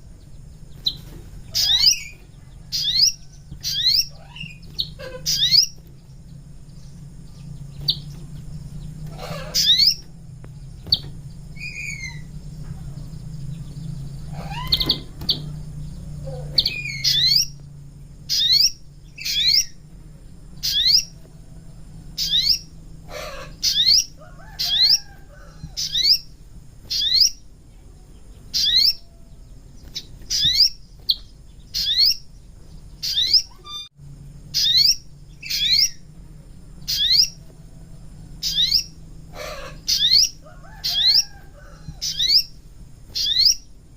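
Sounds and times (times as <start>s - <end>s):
bird chirping: 0.0s - 43.9s
steady low hum: 0.0s - 43.9s.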